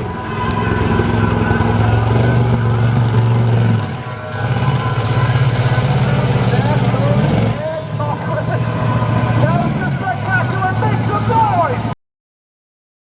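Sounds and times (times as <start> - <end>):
monster truck engine revving: 0.0 - 11.9.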